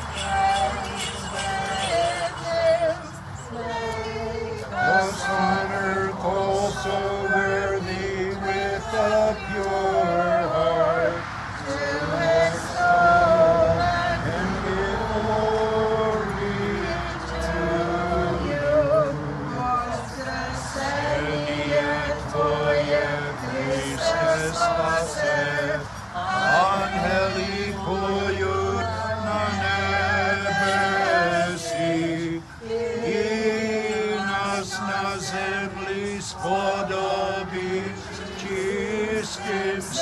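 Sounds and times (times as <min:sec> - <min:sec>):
congregation singing a chant: 0:00.0 - 0:40.0.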